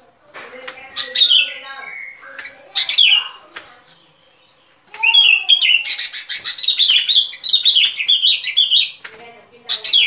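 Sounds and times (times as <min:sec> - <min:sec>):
bulbul song: 0:00.6 - 0:10.0.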